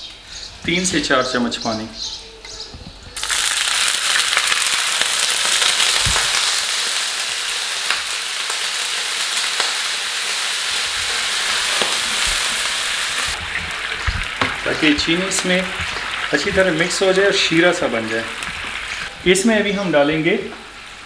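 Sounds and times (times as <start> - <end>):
frying pan sizzling and crackling: 3.2 - 21.0.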